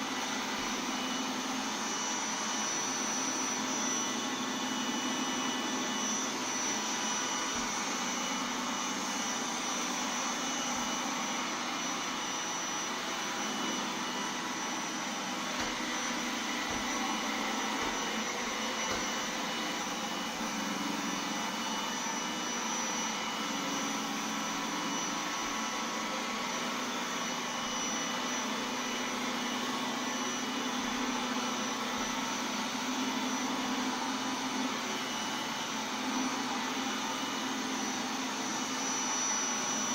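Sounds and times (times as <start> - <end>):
robot vacuum running: 0.1 - 39.9.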